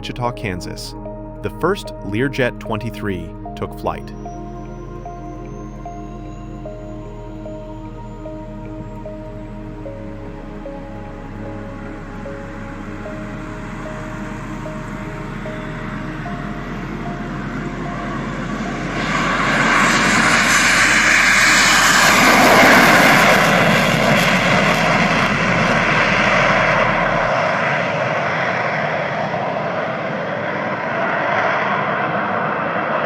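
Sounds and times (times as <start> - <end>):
plane flying past: 4.2 - 33.0.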